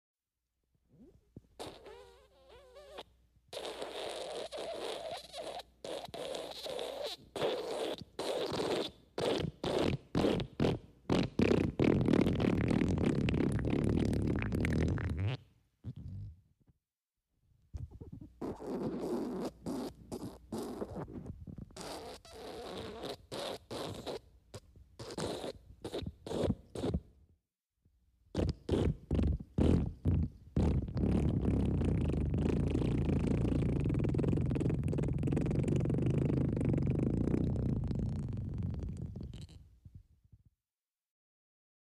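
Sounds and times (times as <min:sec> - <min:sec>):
wet fart sound effect: 0:01.0 - 0:16.4, 0:17.8 - 0:24.2, 0:25.0 - 0:27.0, 0:28.4 - 0:39.6.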